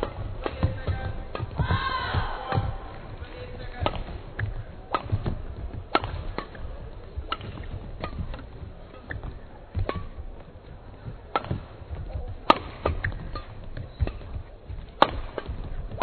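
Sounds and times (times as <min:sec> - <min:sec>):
low arena murmur: 0:00.0 - 0:16.0
rackets hitting shuttlecock: 0:00.0 - 0:16.0.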